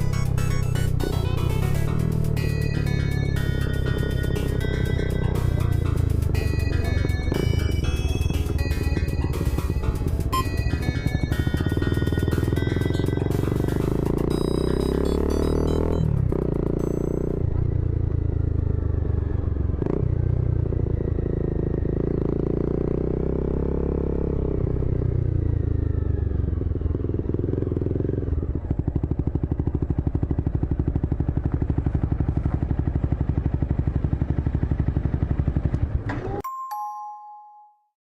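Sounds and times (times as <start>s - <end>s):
motorcycle engine running: 0.0s - 36.4s.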